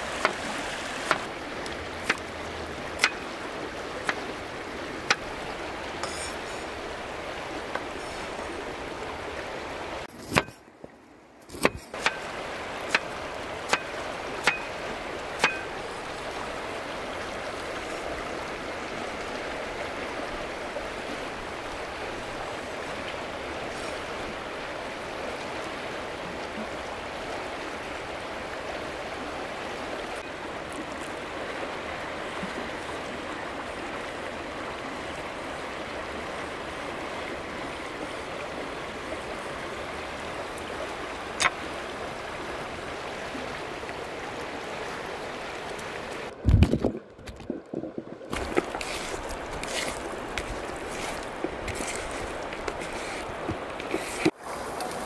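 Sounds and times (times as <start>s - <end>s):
river rushing: 0.0s - 46.5s, 48.2s - 55.0s.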